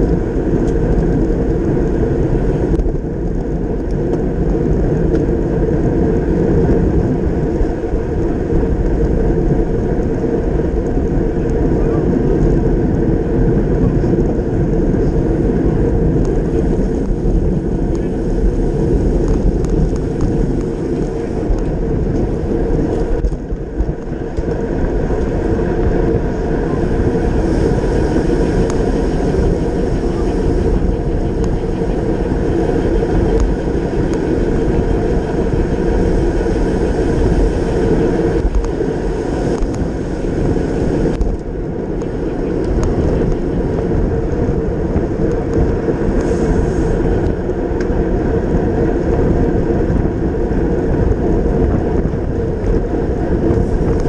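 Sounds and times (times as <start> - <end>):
tyre and road noise: 0.0 - 54.0
wind rumble on microphone: 0.0 - 54.0.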